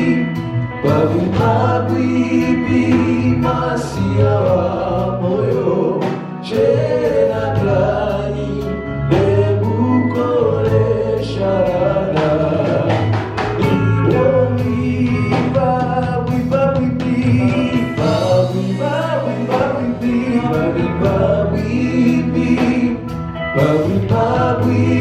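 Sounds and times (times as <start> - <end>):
band playing: 0.0 - 25.0
steady bass: 0.0 - 25.0
voices singing together: 0.0 - 25.0.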